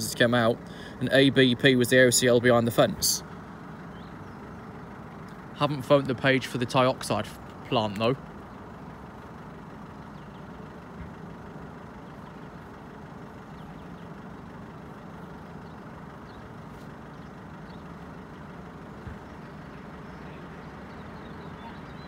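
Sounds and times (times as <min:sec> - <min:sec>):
heavy diesel engine idling: 0:00.0 - 0:22.0.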